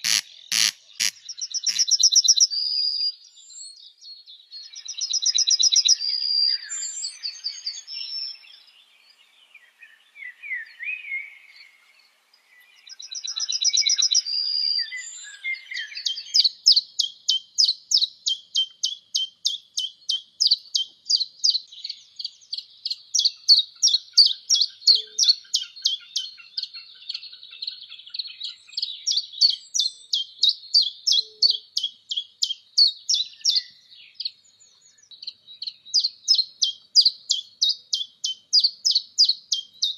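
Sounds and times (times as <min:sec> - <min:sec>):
songbirds singing high trills: 0:00.0 - 0:39.9.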